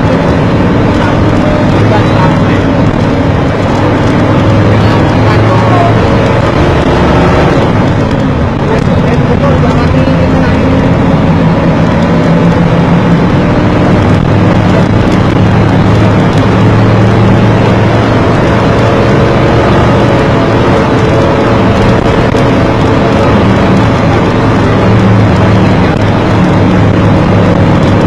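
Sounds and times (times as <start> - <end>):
road and wind noise: 0.0 - 28.0
vehicle engine running: 0.0 - 28.0.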